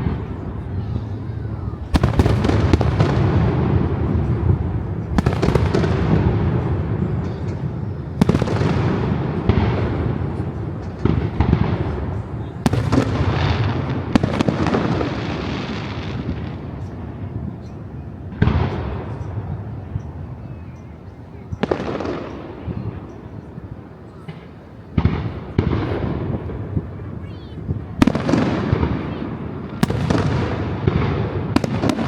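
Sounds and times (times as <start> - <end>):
echoing booms: 0.0 - 1.1, 1.7 - 17.5, 18.2 - 19.8, 21.6 - 23.2, 24.2 - 32.0
fireworks crackling: 0.0 - 20.3, 21.6 - 32.0.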